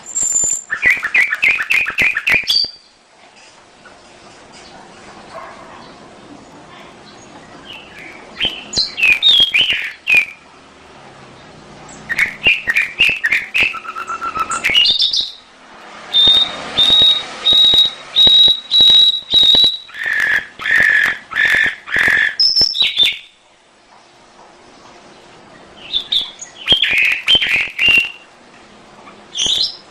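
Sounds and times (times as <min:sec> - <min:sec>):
canary singing: 0:00.0 - 0:03.0, 0:04.0 - 0:10.6, 0:11.4 - 0:23.4, 0:24.6 - 0:28.4, 0:29.0 - 0:29.9.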